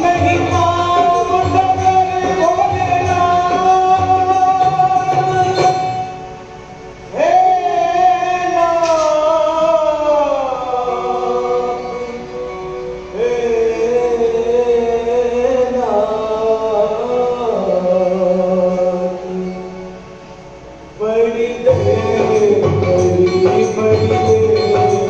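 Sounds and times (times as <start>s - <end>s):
person singing long gliding notes: 0.0s - 20.1s
instrumental accompaniment: 0.0s - 25.0s.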